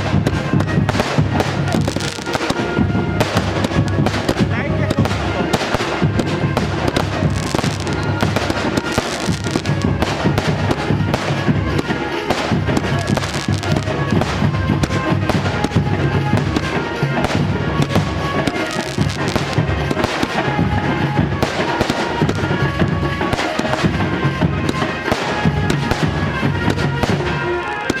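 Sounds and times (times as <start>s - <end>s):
firecrackers crackling: 0.0s - 28.0s
music with a steady beat: 0.0s - 28.0s.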